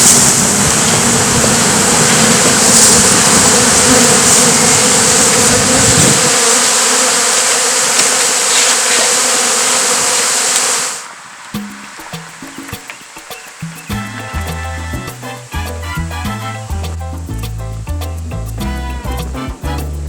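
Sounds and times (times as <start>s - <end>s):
honey bees buzzing: 0.0s - 17.5s, 18.3s - 20.0s.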